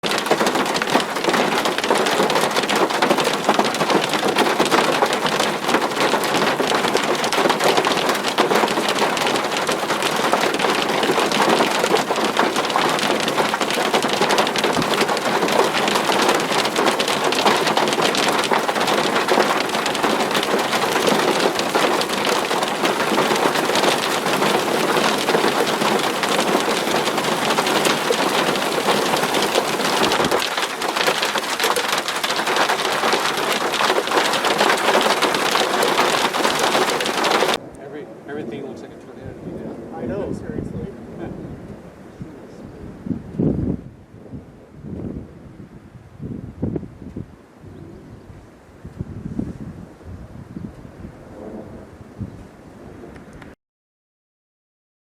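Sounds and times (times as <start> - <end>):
heavy rain on hard surface: 0.0 - 45.6.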